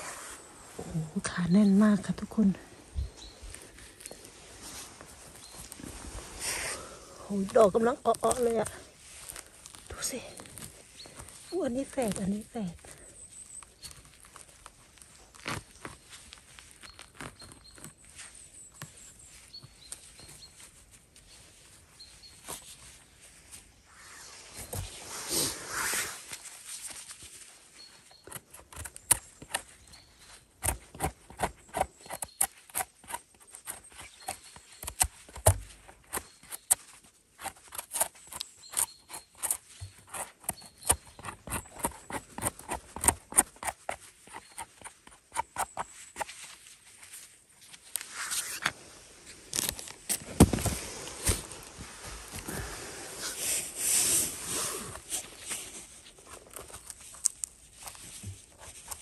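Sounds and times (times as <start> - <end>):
leaves and twigs crunching underfoot: 0.0 - 59.0.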